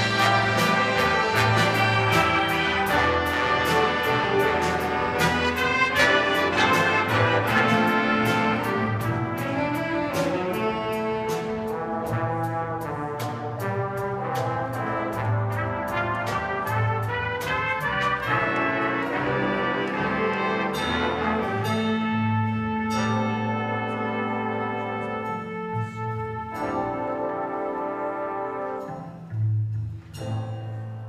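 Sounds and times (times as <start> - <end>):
brass section holding chords: 0.0 - 29.0.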